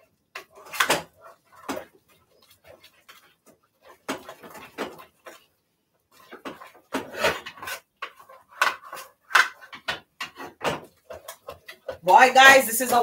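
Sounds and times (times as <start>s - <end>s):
wooden paddle scraping a pot: 0.3s - 13.0s.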